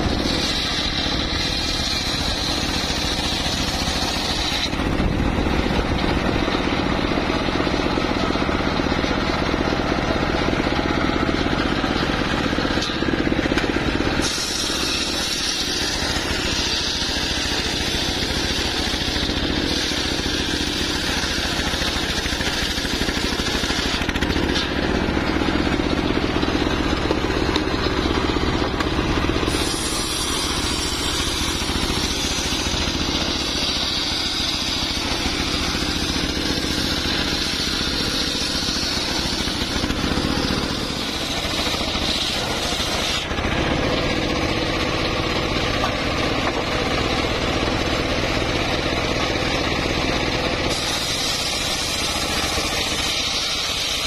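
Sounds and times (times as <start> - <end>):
circular saw cutting log: 0.0 - 54.0.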